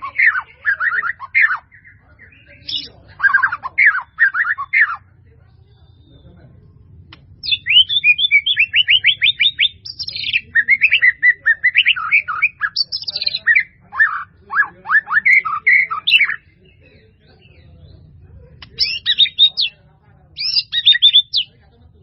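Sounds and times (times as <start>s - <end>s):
songbird singing varied song: 0.0s - 21.7s.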